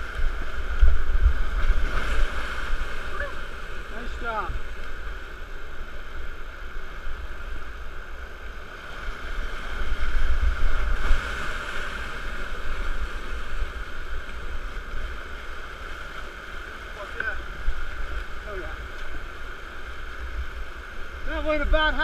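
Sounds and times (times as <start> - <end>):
rushing whitewater rapid: 0.0 - 22.0.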